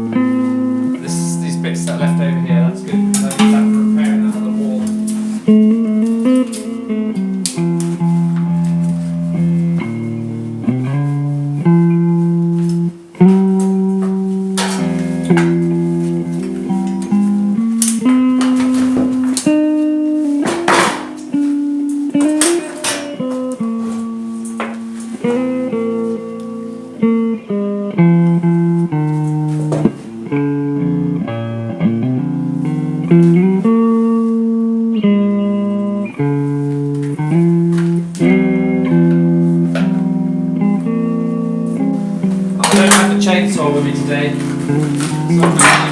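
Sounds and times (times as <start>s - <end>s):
fingerstyle guitar playing: 0.0s - 45.9s.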